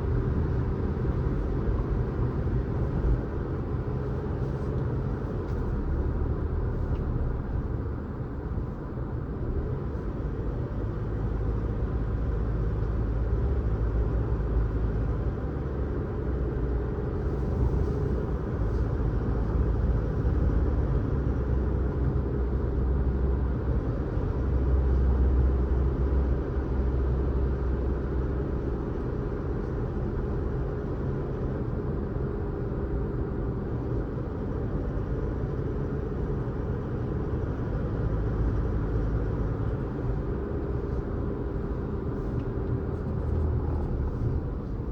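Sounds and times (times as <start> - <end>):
car engine rumble: 0.0 - 44.9.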